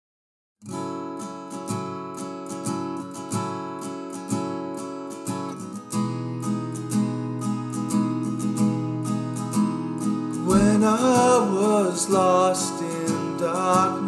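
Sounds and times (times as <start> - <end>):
acoustic guitar strumming: 0.6 - 14.0.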